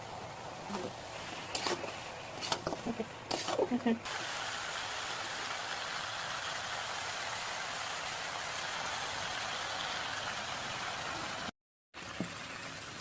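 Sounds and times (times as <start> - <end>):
meat sizzling in hot oil: 1.0 - 11.5.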